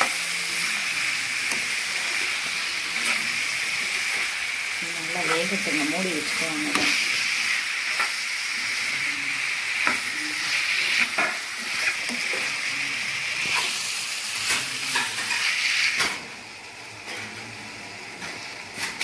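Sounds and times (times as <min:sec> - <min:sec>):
chicken and onion sizzling in oil: 0:00.0 - 0:19.0.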